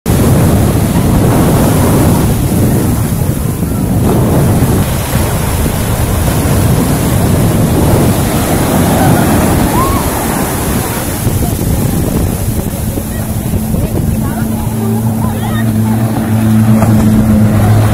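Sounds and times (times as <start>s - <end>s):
wind buffeting microphone: 0.0s - 17.9s
surf breaking: 0.1s - 17.9s.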